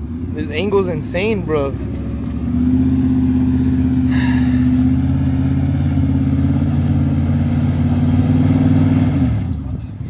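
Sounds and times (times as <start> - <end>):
pickup truck engine running: 0.0 - 10.0.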